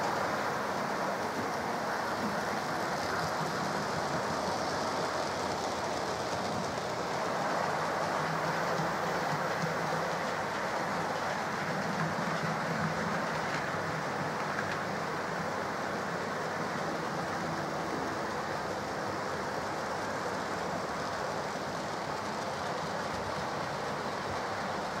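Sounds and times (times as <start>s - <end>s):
model trains whirring on track: 0.0s - 25.0s.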